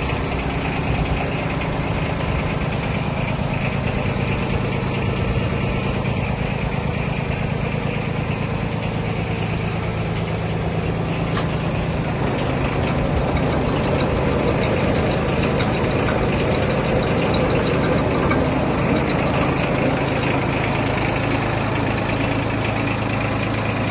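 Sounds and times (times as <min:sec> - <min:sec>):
diesel tractor engine running: 0:00.0 - 0:23.9.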